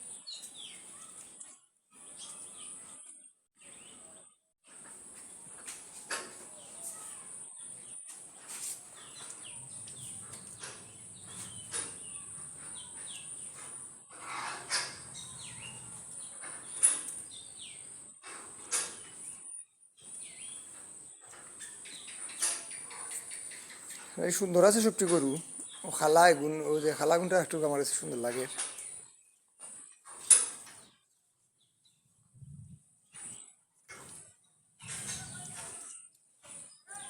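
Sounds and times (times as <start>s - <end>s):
small birds chirping: 0.0s - 5.7s, 6.4s - 37.0s.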